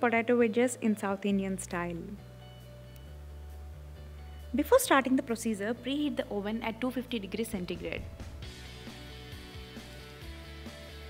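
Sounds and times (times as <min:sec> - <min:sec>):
quiet instrumental background music: 0:00.0 - 0:11.0.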